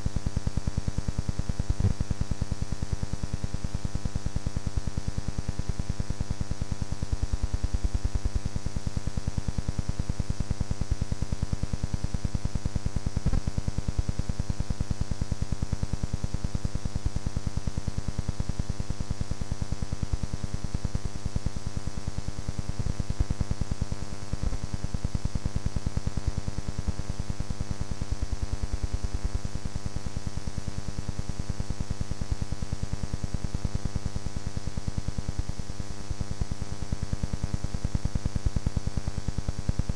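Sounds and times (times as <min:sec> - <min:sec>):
mains hum with hiss: 0:00.0 - 0:39.9.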